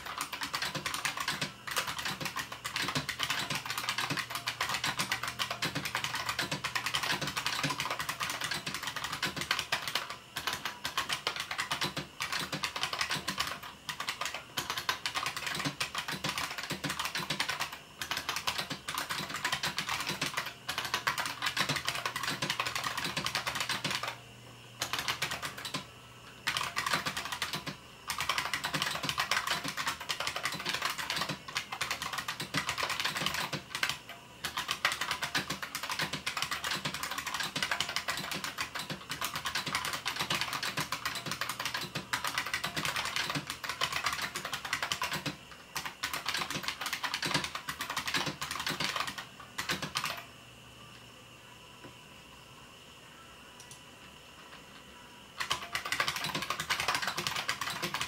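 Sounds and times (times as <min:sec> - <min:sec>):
clicky keyboard typing: 0:00.0 - 0:24.2, 0:24.8 - 0:50.3, 0:55.4 - 0:58.0.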